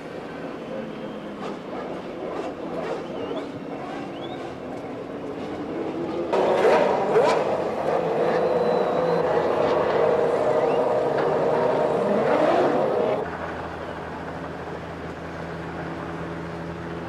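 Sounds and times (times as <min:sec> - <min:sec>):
race car engines at high revs: 0:00.0 - 0:17.0.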